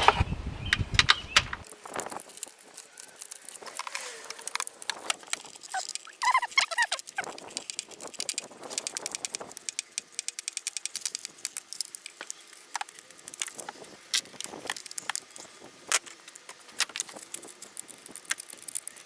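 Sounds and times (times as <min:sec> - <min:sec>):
rapid even clicks: 0:00.7 - 0:19.0
tools and plastic parts rattling: 0:01.0 - 0:19.0.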